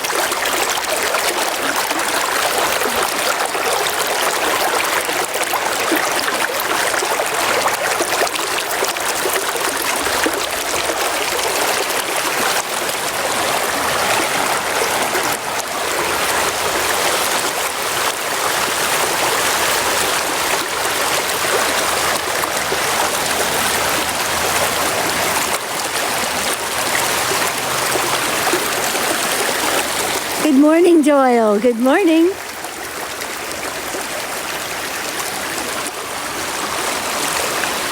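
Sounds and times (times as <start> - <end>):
river flowing: 0.0 - 30.6.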